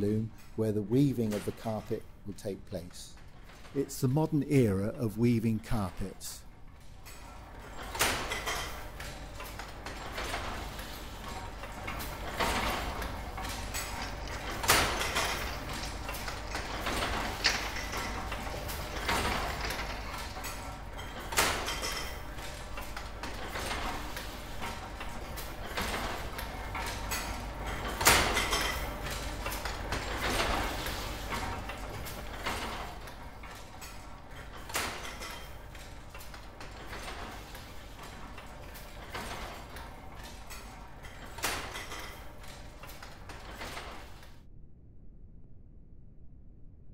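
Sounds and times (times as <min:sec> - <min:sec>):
loom clacking: 0:00.0 - 0:44.4
loom clattering: 0:00.0 - 0:44.4
low machine hum: 0:00.0 - 0:46.9.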